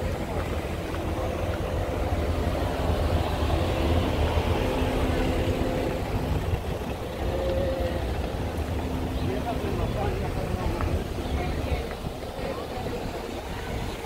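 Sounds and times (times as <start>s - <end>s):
car engines running: 0.0s - 14.0s
low traffic rumble: 0.0s - 14.0s.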